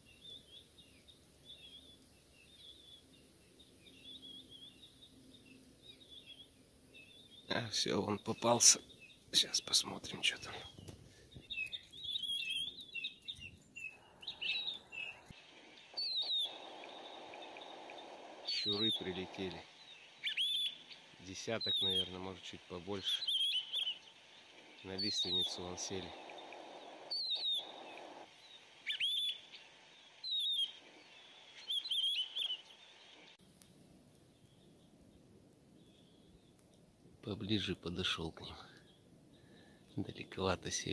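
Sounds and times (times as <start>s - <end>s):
birds whistling calls: 0.0s - 33.4s
songbirds chirping: 0.0s - 40.9s.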